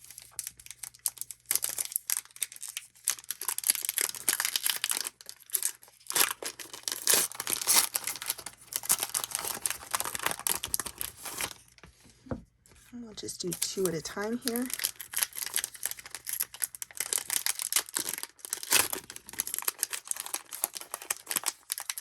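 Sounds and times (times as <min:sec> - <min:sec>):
plastic wrappers crinkling: 0:00.0 - 0:11.8, 0:12.8 - 0:22.0.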